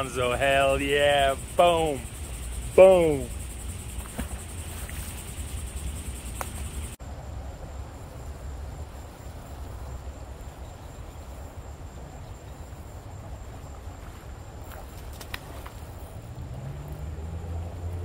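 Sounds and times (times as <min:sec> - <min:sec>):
faint high whine: 0:00.0 - 0:18.0
insects buzzing: 0:00.0 - 0:18.0.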